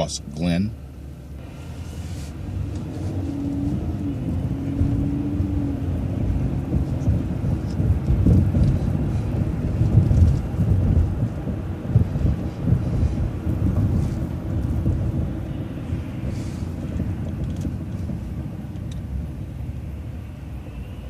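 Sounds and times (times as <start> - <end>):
bus road and engine rumble: 0.0 - 21.0.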